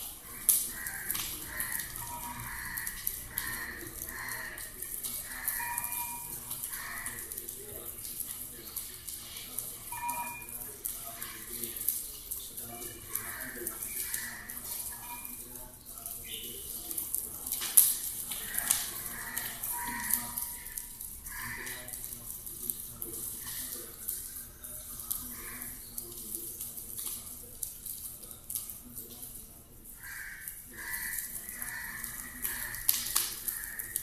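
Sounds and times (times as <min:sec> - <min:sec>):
fire crackling and popping: 0:00.0 - 0:34.0.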